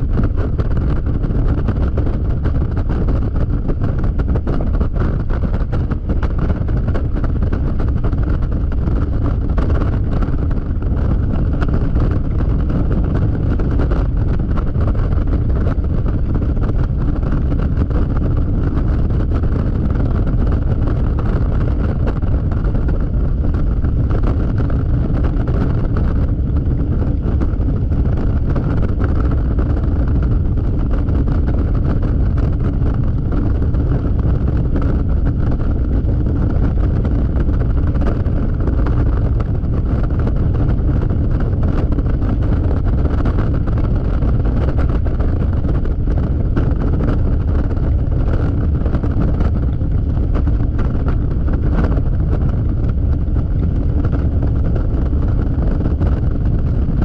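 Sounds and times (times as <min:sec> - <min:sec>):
wind rushing on microphone: 0:00.0 - 0:57.0.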